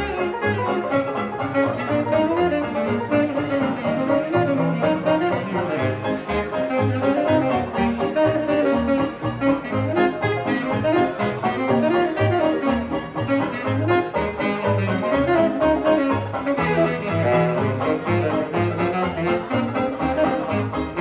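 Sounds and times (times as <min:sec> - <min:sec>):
saxophone melody: 0:00.0 - 0:21.0
walking string bass: 0:00.0 - 0:21.0.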